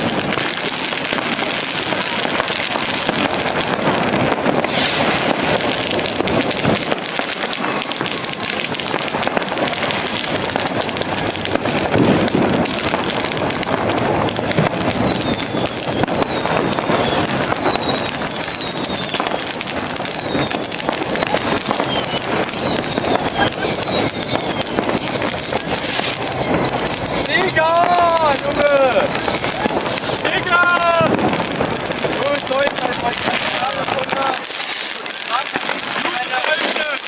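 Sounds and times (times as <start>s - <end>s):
falling firework whistles: 0.0s - 37.0s
firecrackers crackling: 0.0s - 37.0s
sharp pops: 3.1s - 37.0s.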